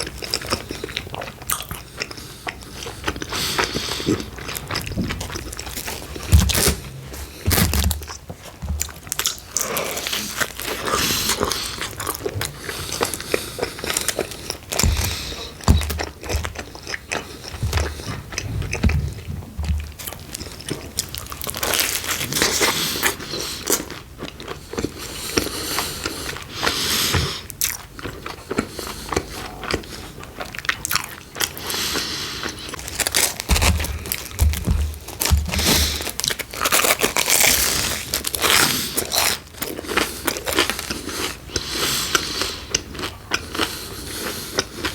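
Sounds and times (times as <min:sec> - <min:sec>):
person chewing pizza: 0:00.0 - 0:44.9.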